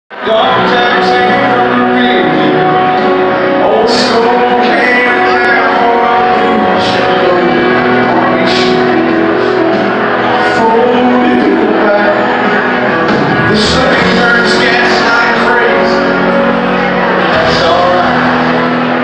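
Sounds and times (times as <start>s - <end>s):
live country band playing: 0.1s - 19.0s
person singing: 0.1s - 19.0s.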